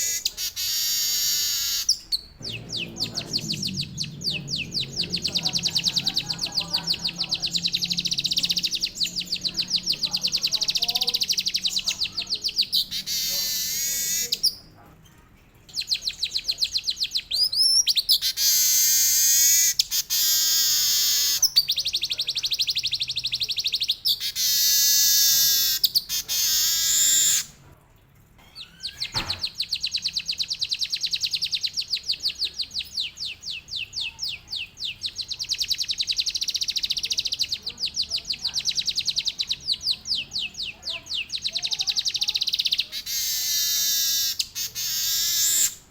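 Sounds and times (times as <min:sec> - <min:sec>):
weaver bird singing trills: 0:00.0 - 0:14.7, 0:15.7 - 0:27.4, 0:28.5 - 0:45.8.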